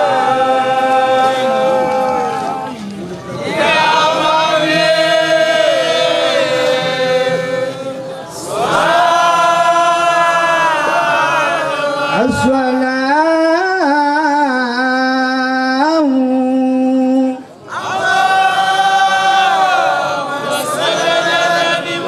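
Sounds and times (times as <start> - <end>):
men chanting unaccompanied: 0.0 - 22.0.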